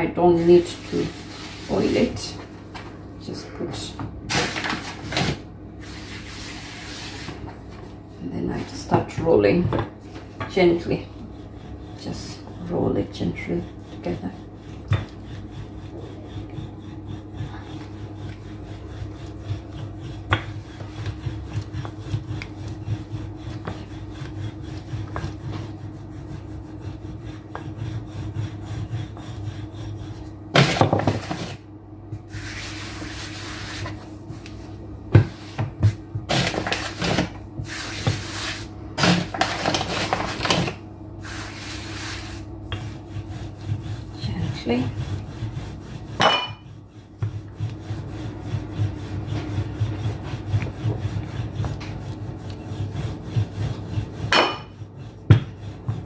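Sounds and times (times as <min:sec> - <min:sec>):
rolling pin rubbing on pastry: 0:00.0 - 0:02.4, 0:03.8 - 0:56.0.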